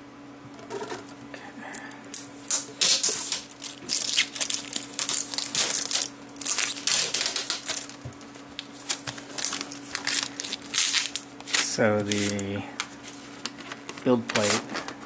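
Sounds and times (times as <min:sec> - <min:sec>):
tape peeling off plastic: 0:02.1 - 0:14.8.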